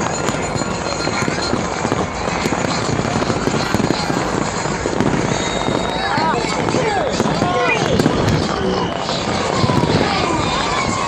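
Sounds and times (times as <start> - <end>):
fireworks crackling: 0.0 - 11.0
sharp firework bangs: 0.0 - 11.0.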